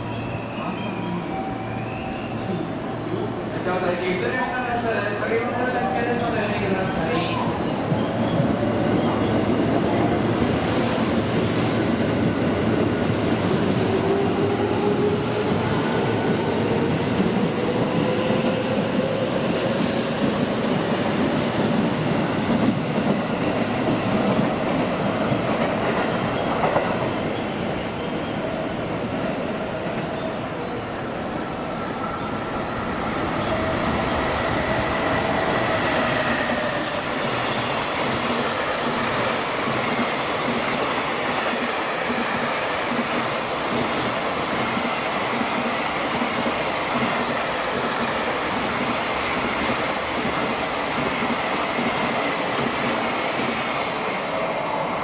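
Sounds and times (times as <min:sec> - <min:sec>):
train wheels rumbling on rails: 0:05.4 - 0:55.0.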